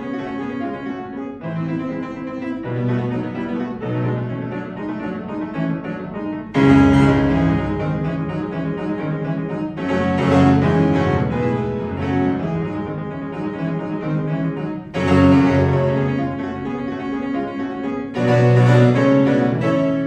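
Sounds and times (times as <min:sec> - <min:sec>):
classical piano music: 0:00.0 - 0:20.0.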